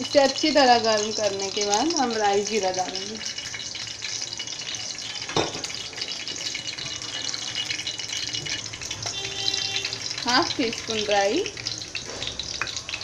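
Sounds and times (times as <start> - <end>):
oil crackling and sizzling: 0.0 - 13.0.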